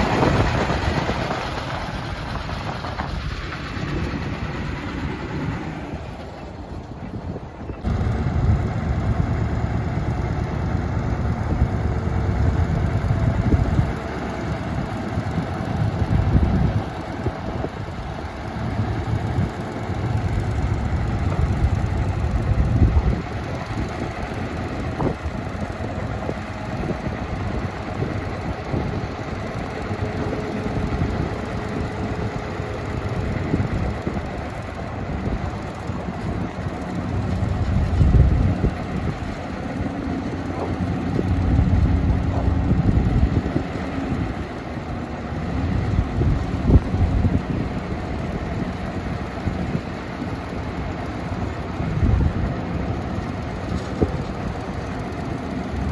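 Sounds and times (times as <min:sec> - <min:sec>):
heavy diesel machinery rumbling: 0:00.0 - 0:55.9.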